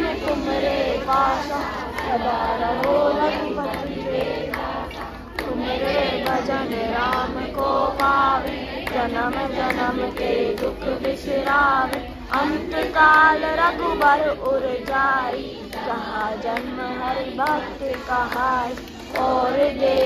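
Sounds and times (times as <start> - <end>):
crowd singing a devotional song: 0.0 - 20.0
rhythmic hand-clapping: 0.0 - 20.0.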